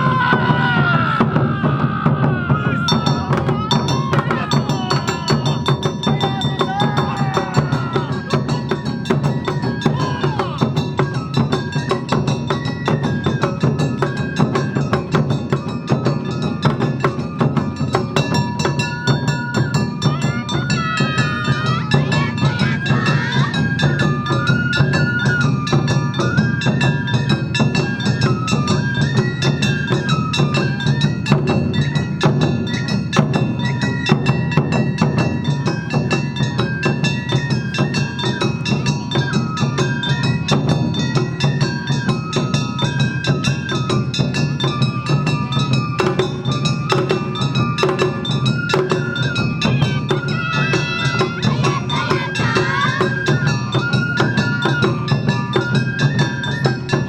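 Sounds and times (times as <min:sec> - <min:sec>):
bamboo flute melody: 0:00.0 - 0:57.0
drums: 0:00.0 - 0:57.0
small gongs beating: 0:02.7 - 0:57.0.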